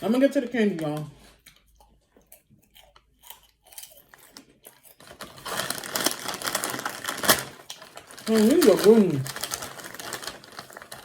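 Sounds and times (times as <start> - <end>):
crunchy snack being chewed: 1.2 - 11.0.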